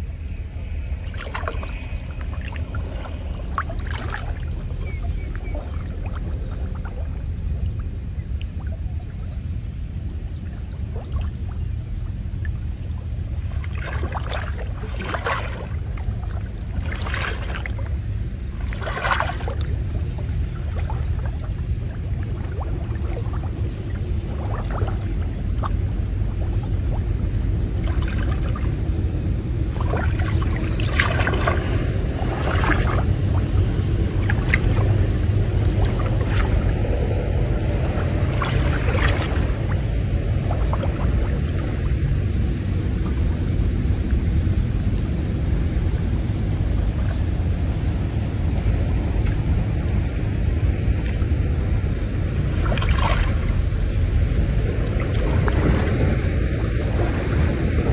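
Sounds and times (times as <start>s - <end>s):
steady low rumble: 0.0s - 57.9s
water splashing and sloshing: 0.0s - 57.9s.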